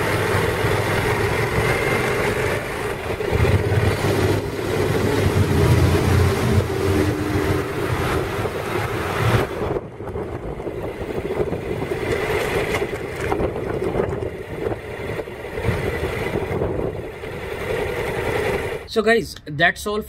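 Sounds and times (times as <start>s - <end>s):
motorcycle engine running: 0.0s - 18.9s
wind and road noise: 0.0s - 18.9s.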